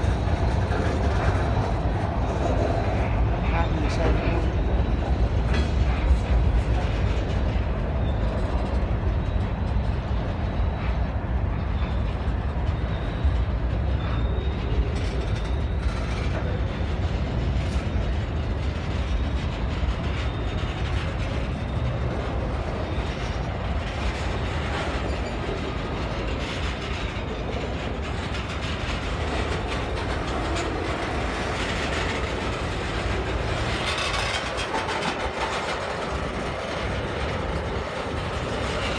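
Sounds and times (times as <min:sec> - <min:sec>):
wheels clicking over rail joints: 0:00.0 - 0:38.9.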